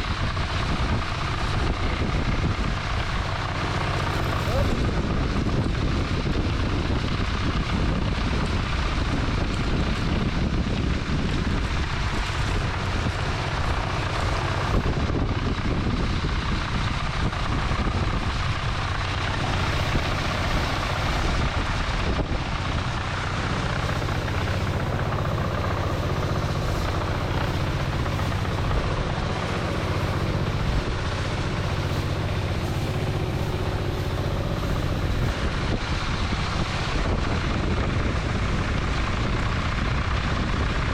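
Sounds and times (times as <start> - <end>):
engine-driven rice blower running: 0.0 - 40.9.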